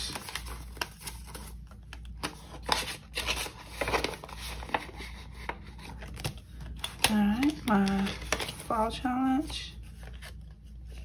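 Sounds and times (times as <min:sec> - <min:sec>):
paper money rustling: 0:00.0 - 0:11.0.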